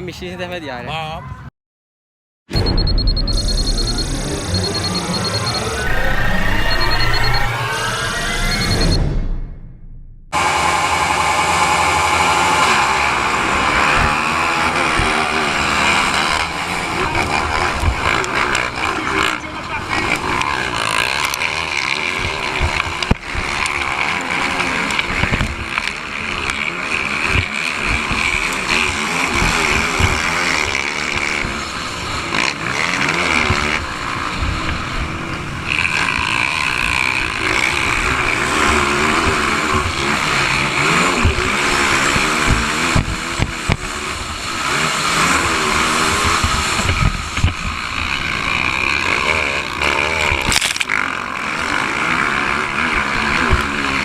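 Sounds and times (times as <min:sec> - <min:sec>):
dirt bike engines revving: 0:02.6 - 0:09.0, 0:10.3 - 0:54.0.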